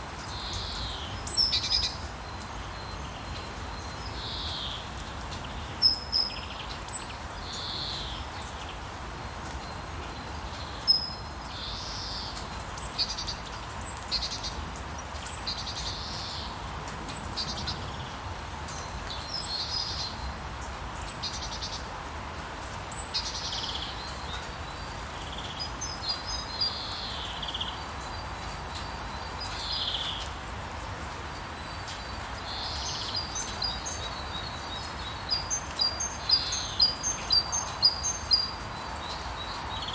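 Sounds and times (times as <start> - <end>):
steady rain hiss: 0.0 - 39.9
songbirds chirping: 0.1 - 39.9.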